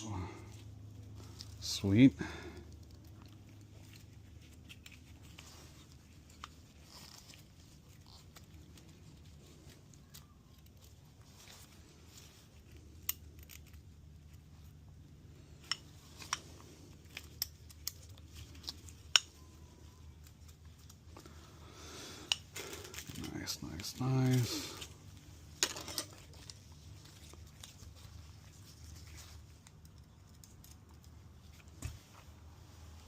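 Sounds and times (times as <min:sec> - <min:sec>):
faint steady low hum: 0:00.0 - 0:33.0.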